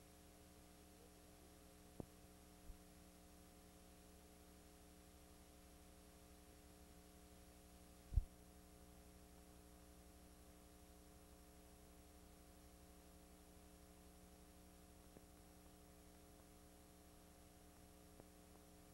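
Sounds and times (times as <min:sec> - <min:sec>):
electrical mains hum: 0:00.0 - 0:18.9.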